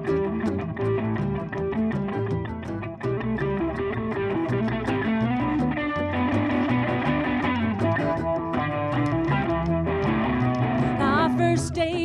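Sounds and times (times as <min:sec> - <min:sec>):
bass guitar: 0:00.0 - 0:12.0
electric guitar lead: 0:00.0 - 0:12.0.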